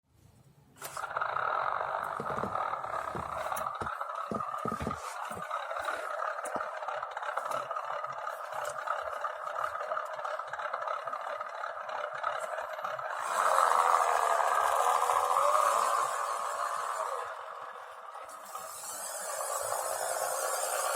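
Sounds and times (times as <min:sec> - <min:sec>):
simulated engine through small speaker: 0:00.8 - 0:20.9.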